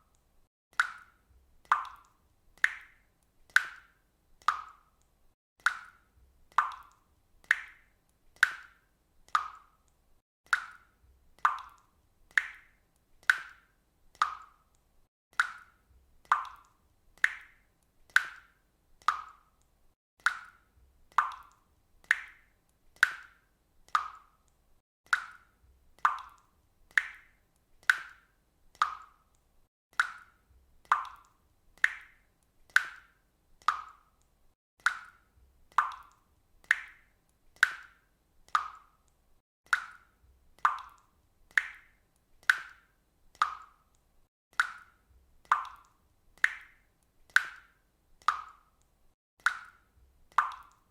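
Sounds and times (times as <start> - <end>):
water drops plopping: 0.7 - 5.0, 5.6 - 9.8, 10.5 - 14.6, 15.4 - 19.6, 20.2 - 24.4, 25.1 - 29.3, 30.0 - 34.2, 34.8 - 39.0, 39.7 - 42.8, 44.6 - 48.7, 49.4 - 50.9.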